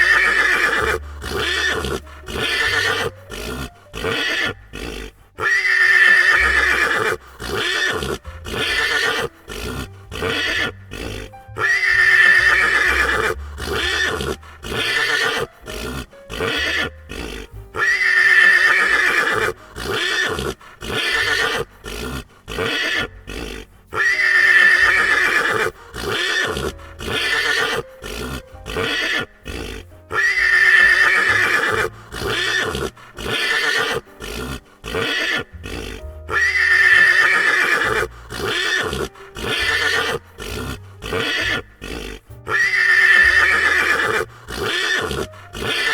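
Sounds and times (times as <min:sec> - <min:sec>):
horse neighing: 0:00.0 - 0:45.9.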